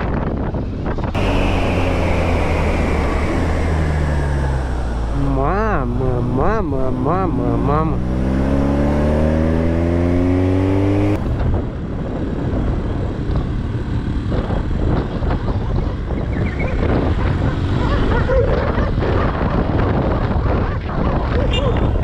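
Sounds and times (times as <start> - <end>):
motorcycle engine accelerating: 0.0 - 22.0
motorcycle riding on dirt track: 0.0 - 22.0
wind noise: 0.0 - 22.0.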